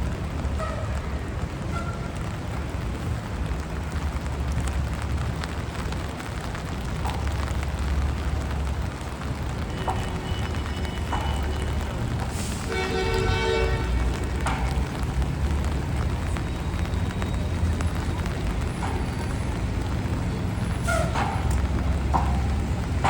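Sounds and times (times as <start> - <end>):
low traffic rumble: 0.0 - 23.0
rain hissing: 0.0 - 23.0
wet tyres on road: 0.0 - 23.0.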